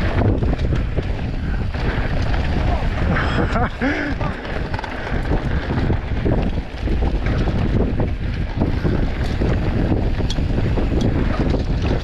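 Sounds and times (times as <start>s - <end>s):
bike knocks and rattles: 0.0s - 12.0s
wind buffeting microphone: 0.0s - 12.0s.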